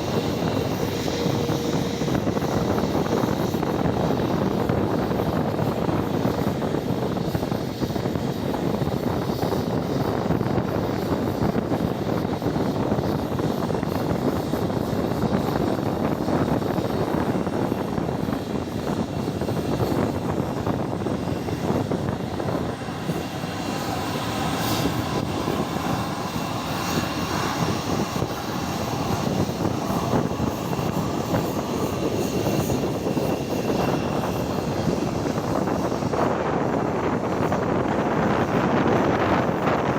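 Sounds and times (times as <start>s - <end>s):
high turbine whine: 0.0s - 39.9s
jet engines rushing: 0.0s - 39.9s.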